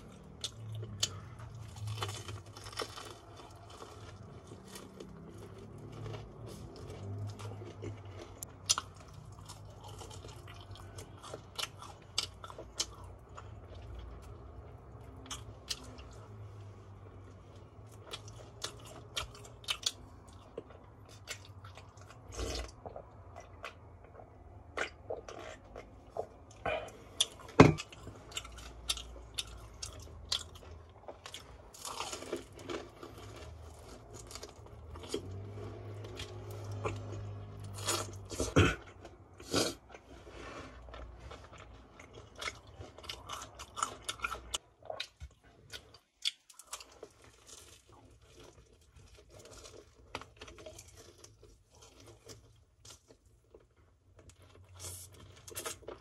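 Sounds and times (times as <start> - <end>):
person crunching fried chicken: 0.0 - 16.4, 24.8 - 56.0.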